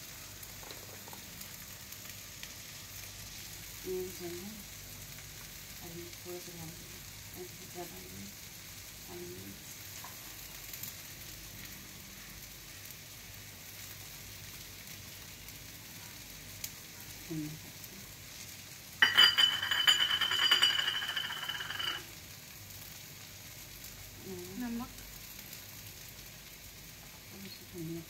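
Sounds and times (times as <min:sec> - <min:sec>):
food frying in a pan: 0:00.0 - 0:28.0.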